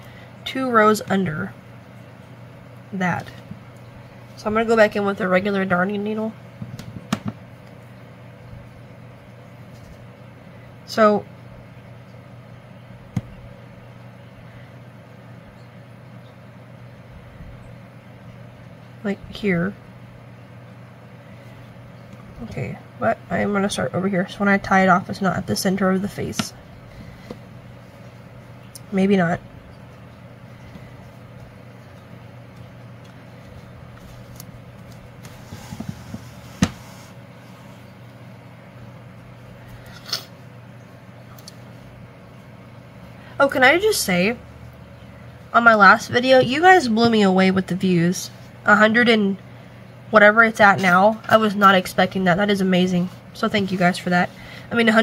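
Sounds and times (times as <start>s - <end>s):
room hum and hiss: 0.0s - 55.0s.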